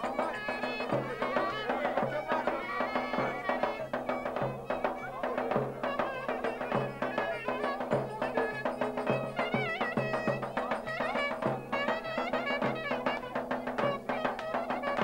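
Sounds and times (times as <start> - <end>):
drum beats: 0.0 - 15.0
reedy wind instrument melody: 0.0 - 15.0.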